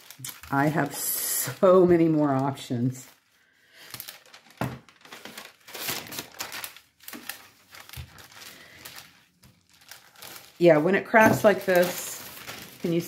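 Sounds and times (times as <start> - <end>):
parchment paper crinkling: 0.0 - 13.0.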